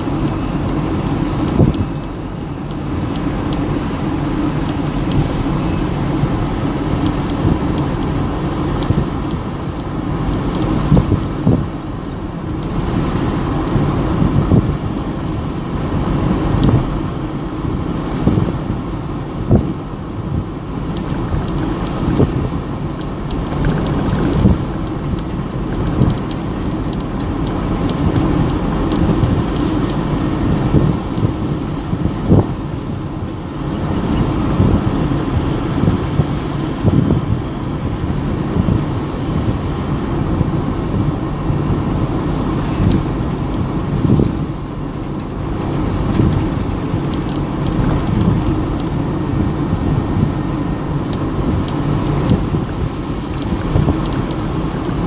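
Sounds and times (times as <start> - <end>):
engine and tyre rumble: 0.0 - 55.0.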